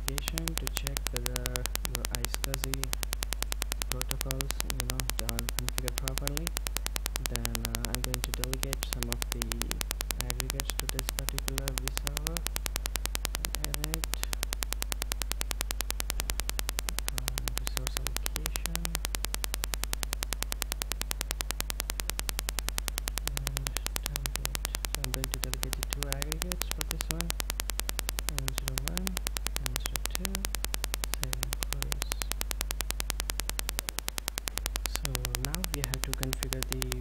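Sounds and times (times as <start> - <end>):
rapid clicking buzz: 0.0 - 37.0
steady low hum: 0.0 - 37.0.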